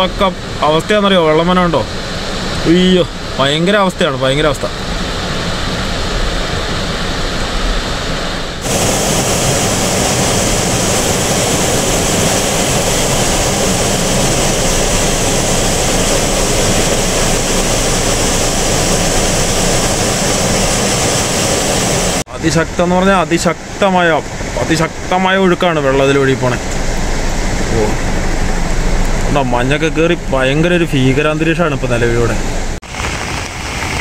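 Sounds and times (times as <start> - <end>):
waterfall rushing: 0.0 - 29.6.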